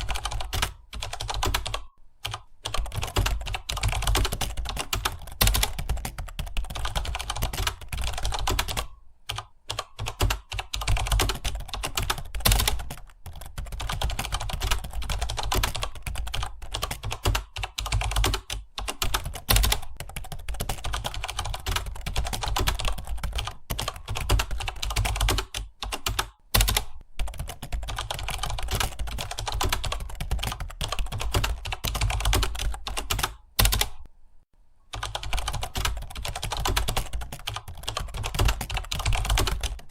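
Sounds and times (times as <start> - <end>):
fast typing on keyboard: 0.0 - 34.1, 34.9 - 39.9.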